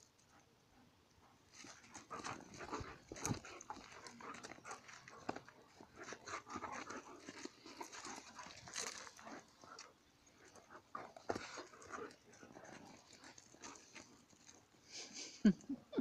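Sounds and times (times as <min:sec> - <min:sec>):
dogs play-fighting: 0:00.2 - 0:14.8.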